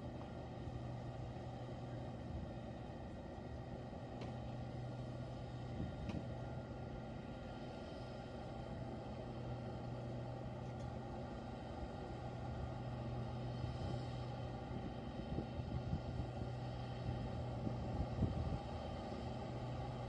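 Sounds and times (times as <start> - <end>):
snow blower engine droning: 0.0 - 20.0.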